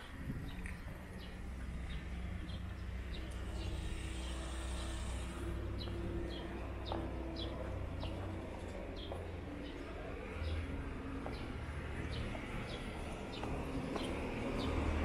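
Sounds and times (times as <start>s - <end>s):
distant vehicle engine hum: 0.0s - 15.0s
low street rumble: 0.0s - 15.0s
small birds chirping: 0.4s - 14.9s.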